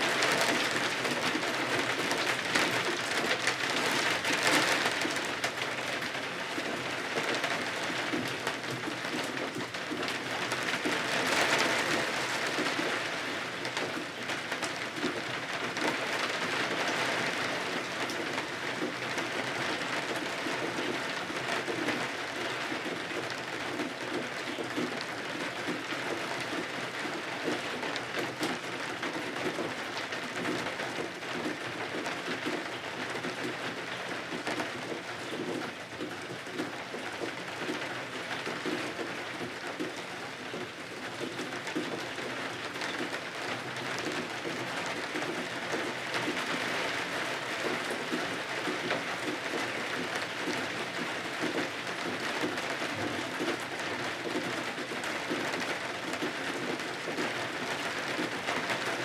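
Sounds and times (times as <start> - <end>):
rain pattering on windows: 0.0 - 59.0.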